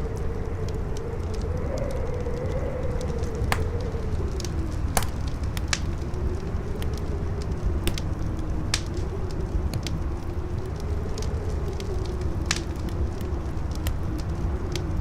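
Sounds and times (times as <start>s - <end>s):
campfire crackling: 0.0s - 15.0s
strong wind howling: 0.0s - 15.0s.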